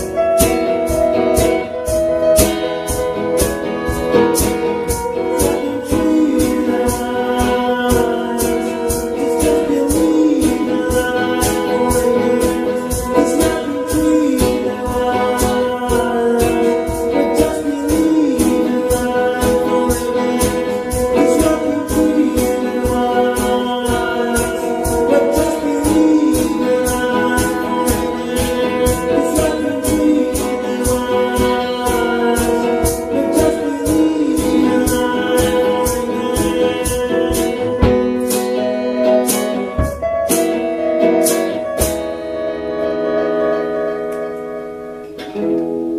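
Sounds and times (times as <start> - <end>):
percussive beat: 0.0 - 44.4
person singing: 0.0 - 44.5
acoustic guitar: 0.0 - 45.9.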